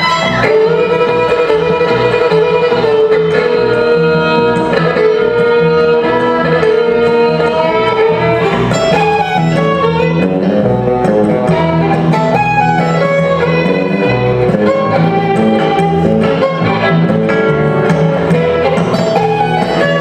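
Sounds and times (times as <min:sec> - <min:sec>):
electric guitar accompaniment: 0:00.0 - 0:20.0
fiddles bowing a tune: 0:00.0 - 0:20.0.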